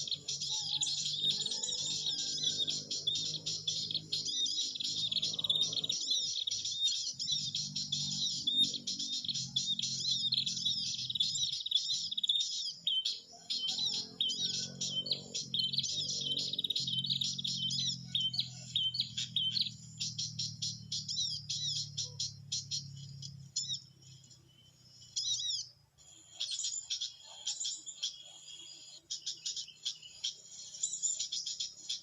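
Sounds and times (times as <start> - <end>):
birds chirping and trilling: 0.0 - 32.0.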